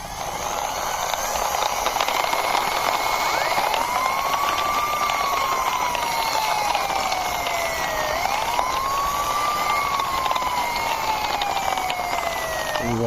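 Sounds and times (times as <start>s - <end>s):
engine-like tone: 0.0s - 13.0s
toy car wheels rattling: 0.0s - 13.0s.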